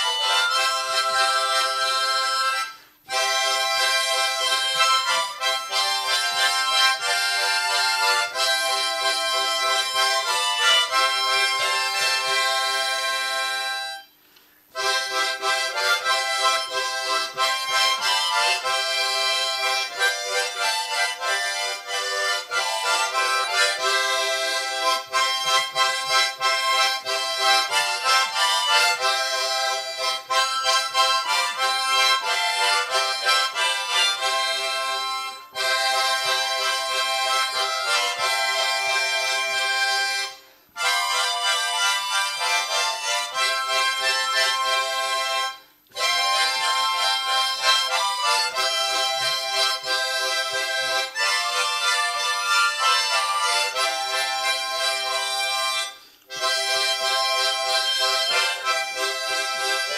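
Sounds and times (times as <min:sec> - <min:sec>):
harmonica ensemble playing: 0:00.0 - 0:59.9.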